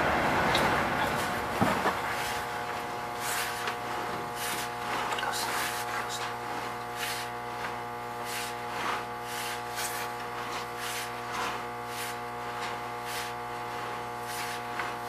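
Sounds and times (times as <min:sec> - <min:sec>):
electrical hum: 0:00.0 - 0:15.0
cable rubbing scrapes: 0:01.0 - 0:15.0.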